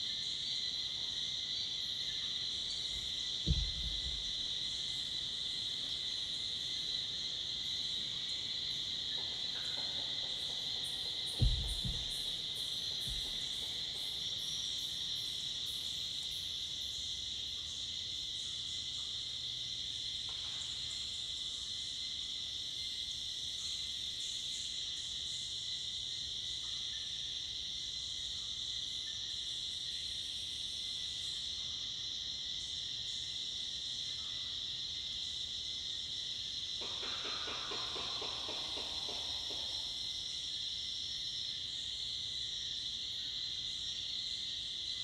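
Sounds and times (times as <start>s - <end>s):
insects droning: 0.0s - 45.0s
low insect whine: 0.0s - 45.0s.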